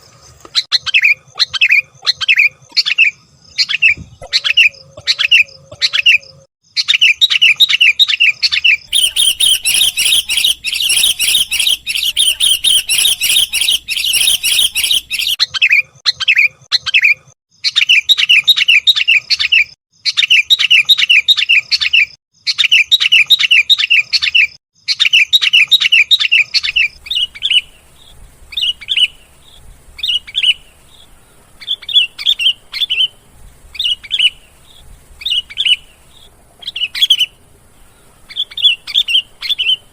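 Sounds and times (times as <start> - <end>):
bulbuls chattering chirps: 0.6 - 19.5, 24.9 - 39.9.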